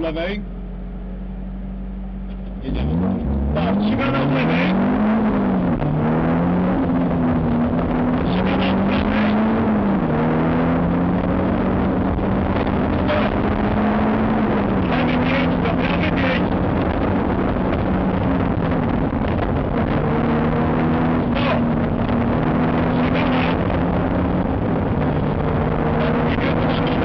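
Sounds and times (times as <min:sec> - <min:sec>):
rally car engine in cabin: 0:00.0 - 0:27.0
road and wind noise: 0:00.0 - 0:27.0.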